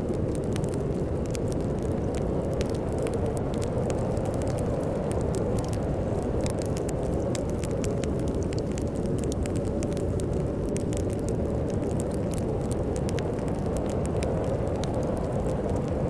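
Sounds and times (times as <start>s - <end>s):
storm wind rumble: 0.0s - 16.0s
wood fire crackling: 0.0s - 16.0s.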